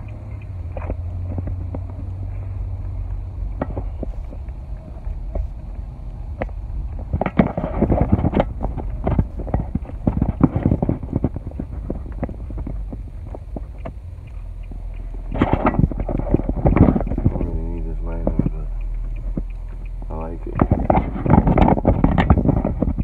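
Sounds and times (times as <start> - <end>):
car cabin road rumble: 0.0 - 23.0.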